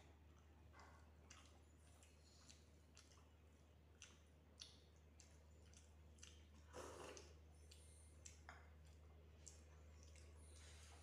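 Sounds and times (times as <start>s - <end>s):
people eating by hand: 0.1s - 11.0s.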